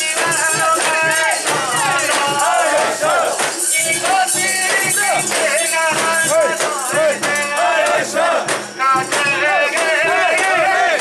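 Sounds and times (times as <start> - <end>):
crowd chanting: 0.0 - 11.0
high rattling jingle: 0.0 - 11.0.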